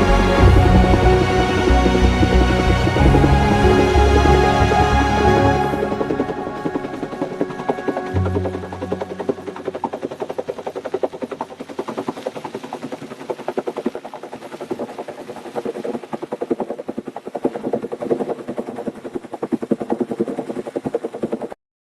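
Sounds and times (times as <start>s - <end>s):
helicopter rotor blades chopping: 0.0s - 21.6s.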